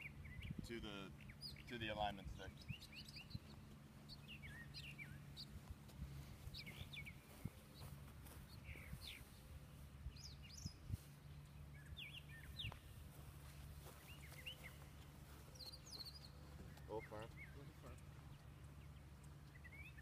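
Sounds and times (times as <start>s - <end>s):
faint low hum: 0.0s - 20.0s
songbirds chirping: 0.0s - 20.0s.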